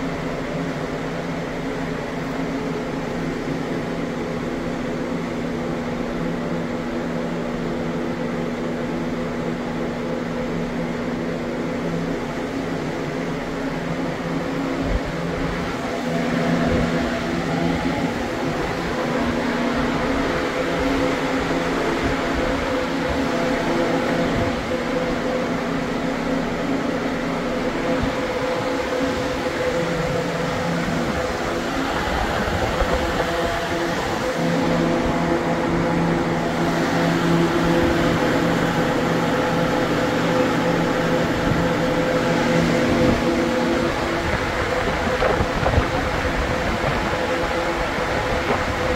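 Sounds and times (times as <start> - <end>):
ventilation fans humming: 0.0 - 48.9.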